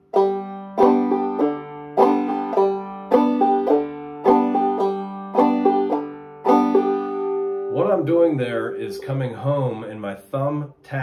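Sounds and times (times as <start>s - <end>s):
banjo notes: 0.0s - 11.0s.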